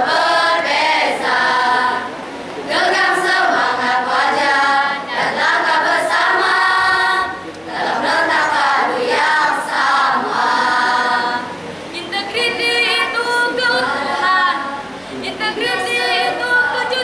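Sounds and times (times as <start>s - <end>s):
choir singing unaccompanied: 0.0s - 17.0s.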